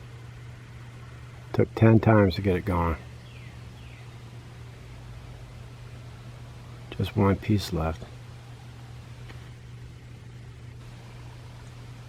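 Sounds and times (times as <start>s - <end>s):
faint hiss: 0.0s - 12.0s
steady low hum: 0.0s - 12.0s.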